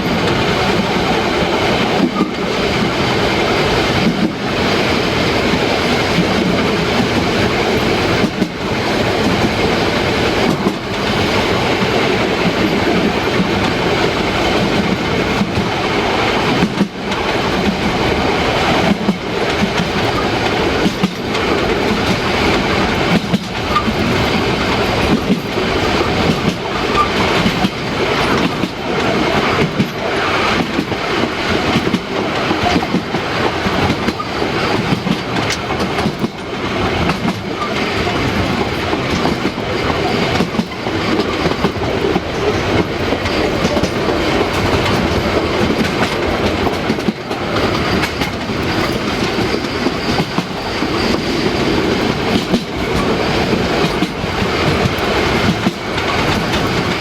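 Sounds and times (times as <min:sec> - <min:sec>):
steam train running: 0:00.0 - 0:57.0.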